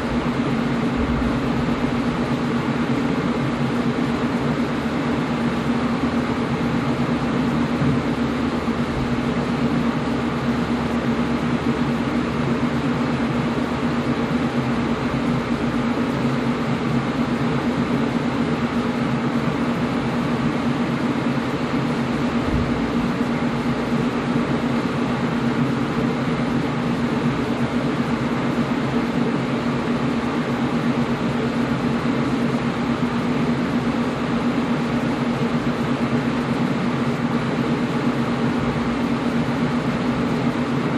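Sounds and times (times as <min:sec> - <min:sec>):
air conditioner running: 0:00.0 - 0:40.9.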